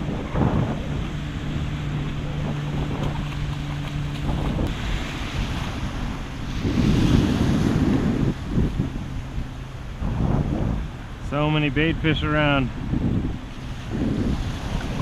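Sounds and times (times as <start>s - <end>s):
steady low hum: 0.0s - 15.0s
waves breaking in surf: 0.0s - 15.0s
wind buffeting microphone: 0.0s - 15.0s.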